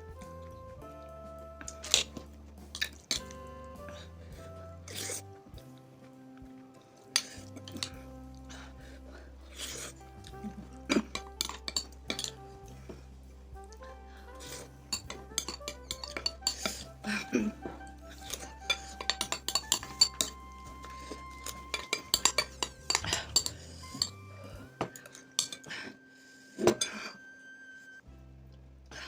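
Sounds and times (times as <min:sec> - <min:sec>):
background music: 0:00.0 - 0:29.0.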